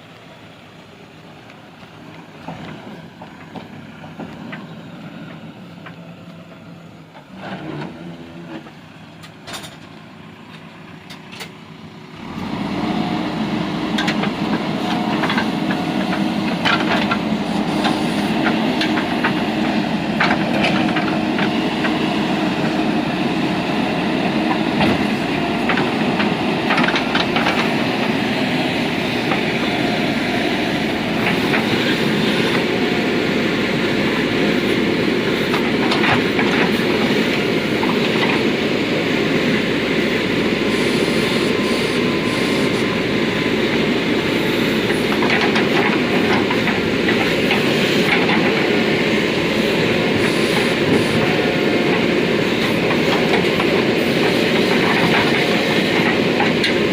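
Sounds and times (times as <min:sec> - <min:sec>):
diesel engine running hard: 0:00.0 - 0:56.9.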